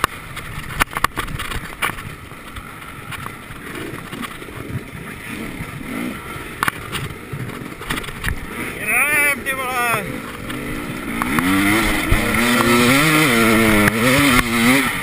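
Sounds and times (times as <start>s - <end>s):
motorcycle engine revving: 0.0s - 15.0s
motorcycle jolting over bumps: 0.0s - 15.0s.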